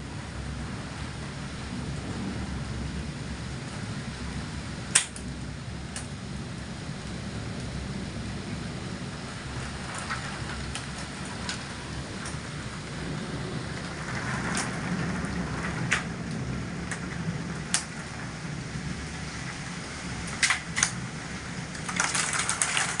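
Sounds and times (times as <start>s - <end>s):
low thunder rumble: 0.0s - 23.0s
rain hissing: 0.0s - 23.0s.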